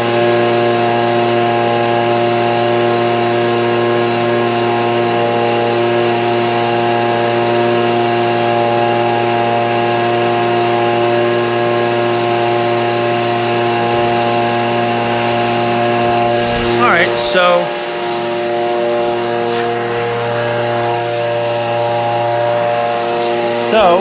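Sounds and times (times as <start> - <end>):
leaf blower engine running: 0.0 - 24.0.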